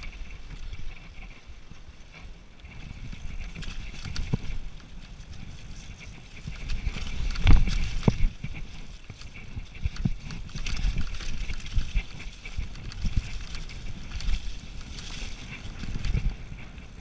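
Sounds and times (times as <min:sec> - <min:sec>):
bike clattering: 0:00.0 - 0:17.0.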